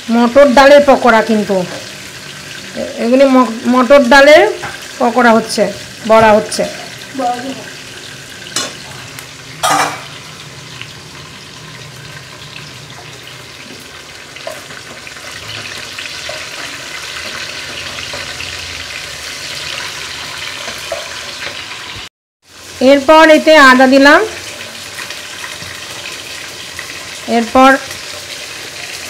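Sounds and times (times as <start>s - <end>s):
oil sizzling: 0.0s - 29.0s.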